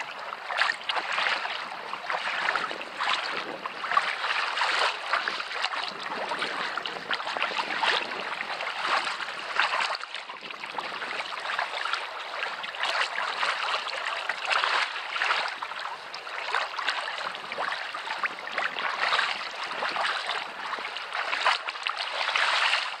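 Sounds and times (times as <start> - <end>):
paddle blades splashing: 0.0 - 23.0
water slapping against hull: 0.0 - 23.0.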